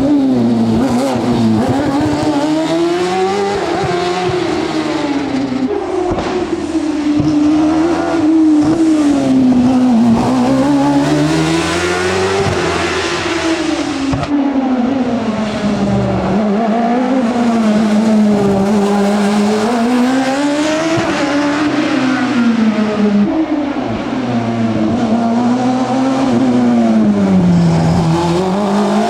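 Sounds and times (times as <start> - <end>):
racing car engine accelerating: 0.0 - 29.0.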